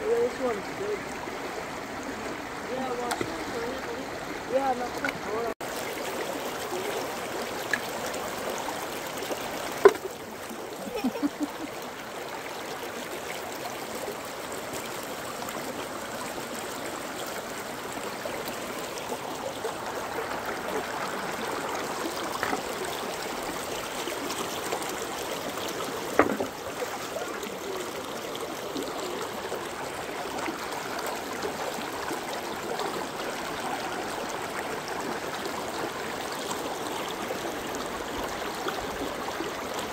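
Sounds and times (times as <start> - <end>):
creek running over stones: 0.0 - 39.9.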